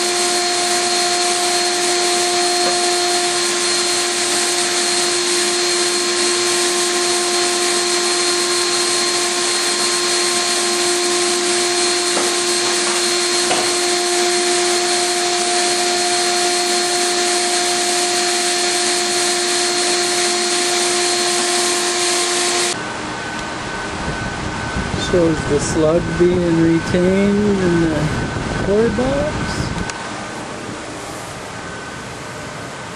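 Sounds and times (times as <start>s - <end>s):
core drill motor whine: 0.0s - 32.8s.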